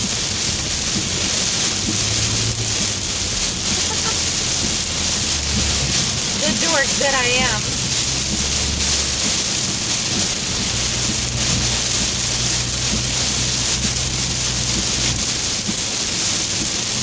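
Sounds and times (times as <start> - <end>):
car engine and road drone: 0.0 - 17.0
heavy rain on car roof: 0.0 - 17.0.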